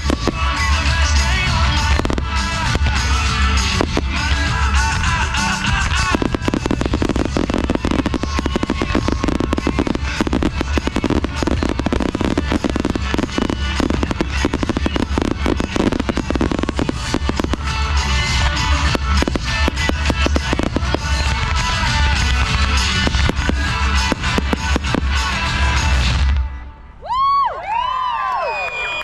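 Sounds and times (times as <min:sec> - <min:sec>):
fireworks bangs and crackle: 0:00.0 - 0:26.5
loud music: 0:00.0 - 0:27.0.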